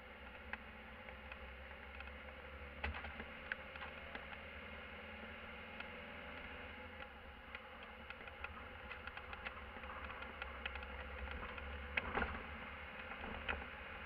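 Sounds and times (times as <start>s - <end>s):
engine and road drone: 0.0s - 14.0s.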